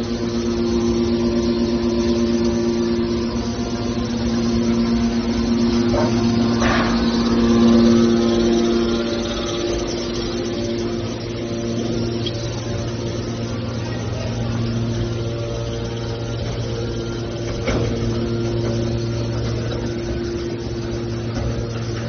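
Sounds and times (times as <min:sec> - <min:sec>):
hydraulic power unit droning: 0:00.0 - 0:22.0.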